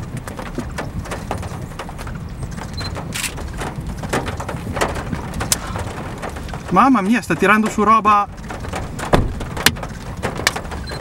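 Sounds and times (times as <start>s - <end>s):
irregular ticks and knocks: 0.0s - 11.0s
storm wind rumbling on microphone: 0.0s - 11.0s.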